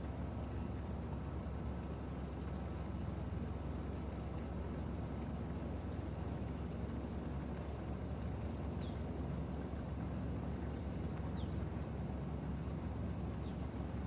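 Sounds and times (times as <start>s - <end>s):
low harbour rumble: 0.0s - 14.0s.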